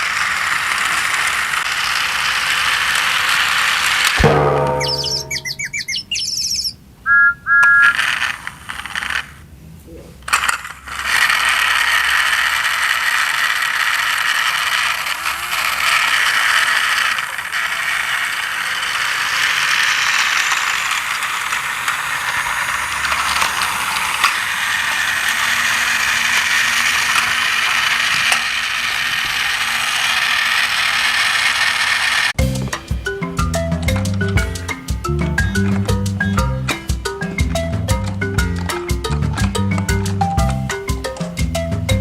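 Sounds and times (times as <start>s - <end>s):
toy train motor clicking whir: 0.0s - 4.7s, 7.6s - 9.5s, 10.2s - 32.4s, 33.4s - 42.0s.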